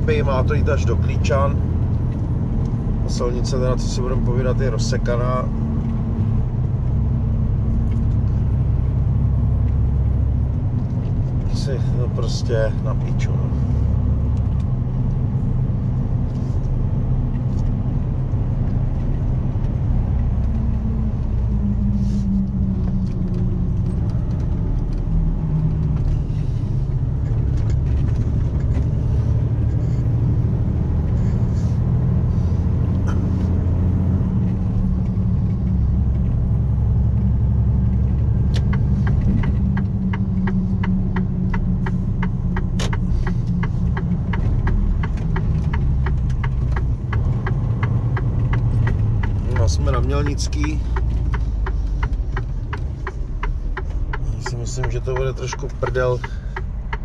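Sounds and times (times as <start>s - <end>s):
lorry engine running: 0.0s - 57.0s
turn signal ticking: 0.1s - 57.0s.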